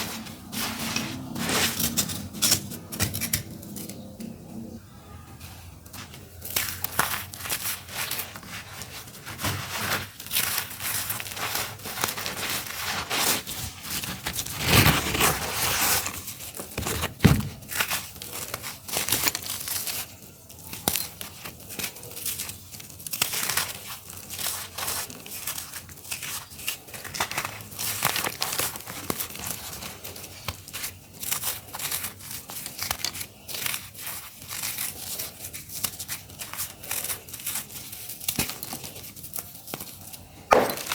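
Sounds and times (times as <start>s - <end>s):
dry dirt crumbling and crunching: 0.0s - 4.2s, 5.4s - 35.2s, 40.5s - 40.9s.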